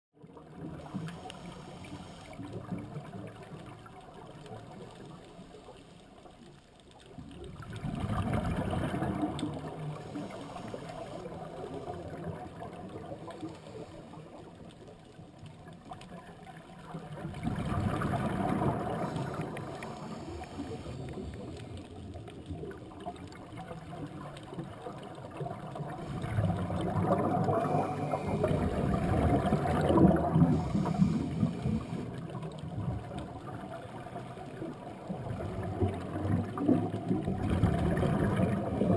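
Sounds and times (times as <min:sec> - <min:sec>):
gurgling exhaled bubbles: 0:00.2 - 0:05.5, 0:07.0 - 0:38.9
steady underwater noise: 0:00.2 - 0:38.9.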